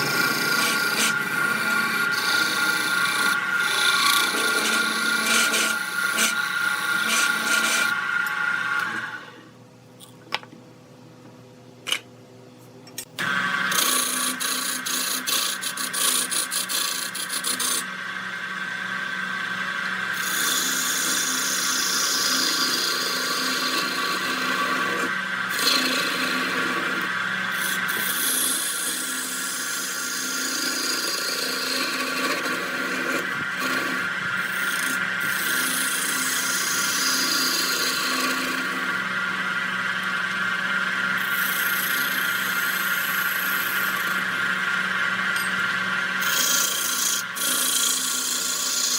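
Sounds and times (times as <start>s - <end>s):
tool rasping on spinning wood: 0.0s - 9.4s, 13.2s - 17.9s, 20.1s - 40.3s, 41.0s - 48.9s
wood lathe motor hum: 0.0s - 9.5s, 13.2s - 48.9s.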